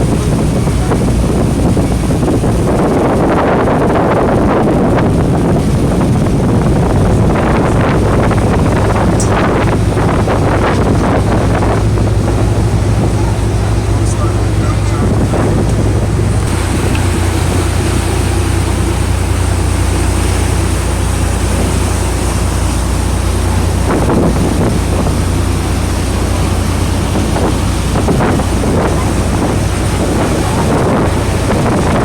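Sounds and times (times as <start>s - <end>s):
boat engine droning: 0.0s - 32.0s
wind buffeting microphone: 0.0s - 32.0s.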